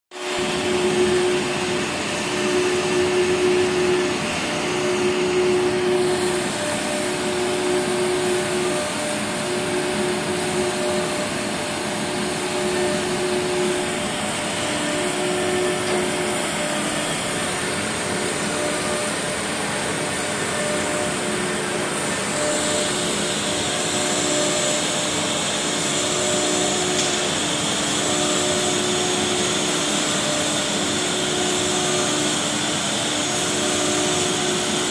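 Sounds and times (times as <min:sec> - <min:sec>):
cnc wood router running: 0:00.1 - 0:34.9
intermittent hum: 0:00.3 - 0:34.9.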